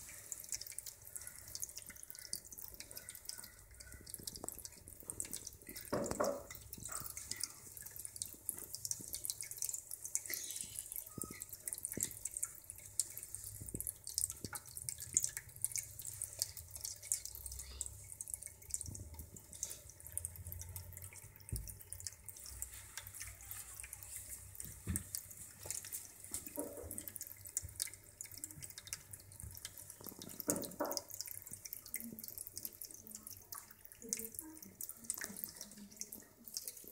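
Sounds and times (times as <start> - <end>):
water streams splashing into bowl: 0.0 - 36.9.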